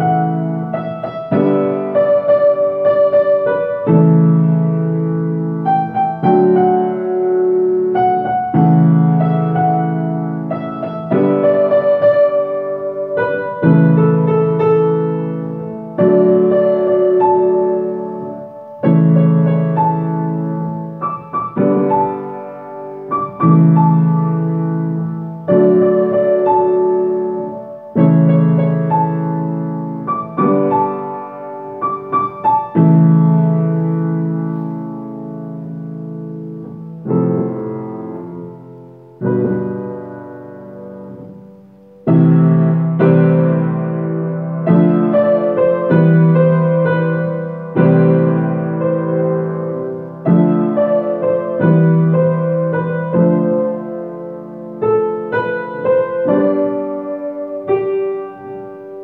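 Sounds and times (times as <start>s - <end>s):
upright piano chords: 0.0s - 59.0s.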